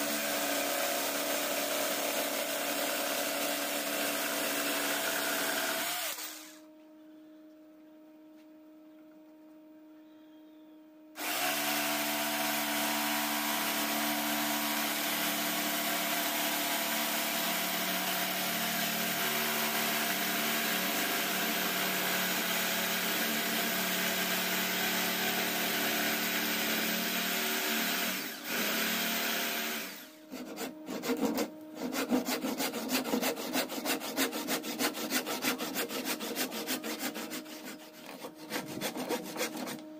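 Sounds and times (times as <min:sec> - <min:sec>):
electric jigsaw cutting wood: 0:00.0 - 0:06.6, 0:11.2 - 0:39.9
hand saw cutting wood: 0:00.0 - 0:06.6, 0:11.2 - 0:39.9.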